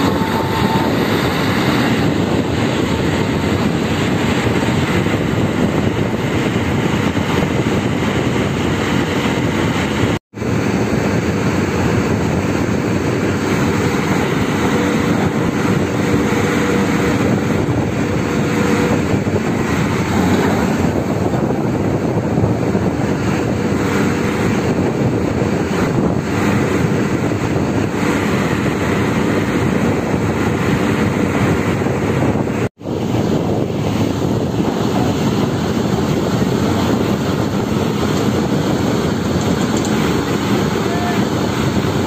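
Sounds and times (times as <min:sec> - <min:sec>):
loud motor noise: 0:00.0 - 0:42.0.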